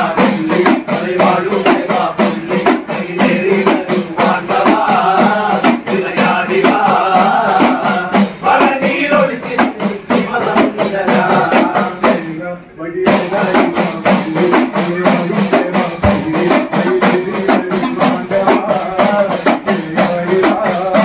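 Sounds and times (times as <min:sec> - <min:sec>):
small hand drums beating: 0:00.0 - 0:12.4, 0:13.0 - 0:21.0
men singing devotional song: 0:00.0 - 0:21.0.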